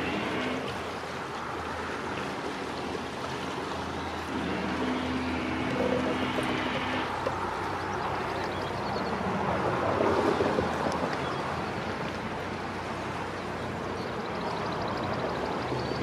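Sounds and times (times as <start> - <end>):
boat engine humming: 0.0 - 16.0
water wash: 0.0 - 16.0.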